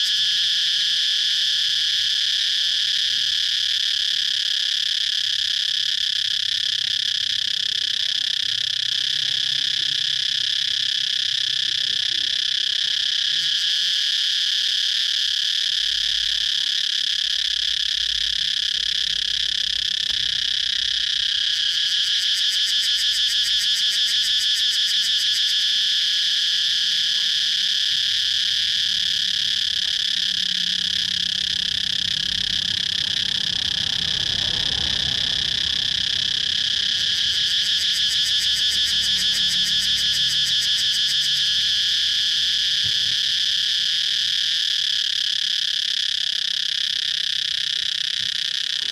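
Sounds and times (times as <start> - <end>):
cicadas buzzing: 0.0 - 48.9.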